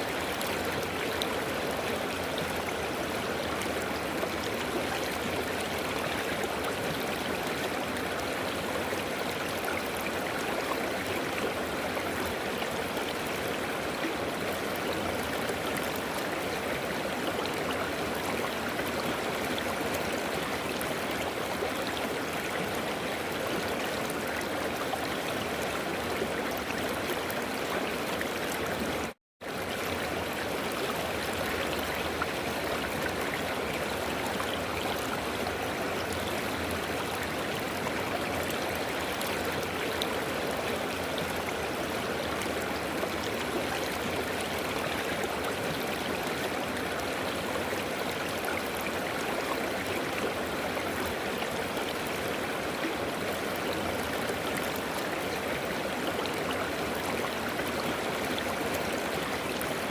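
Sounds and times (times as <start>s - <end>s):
river water rushing and babbling: 0.0s - 59.9s.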